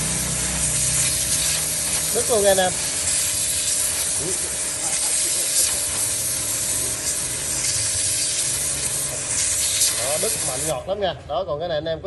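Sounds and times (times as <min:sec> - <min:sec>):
pressure washer hum: 0:00.0 - 0:11.0
pressure washer water jet hissing: 0:00.0 - 0:11.0.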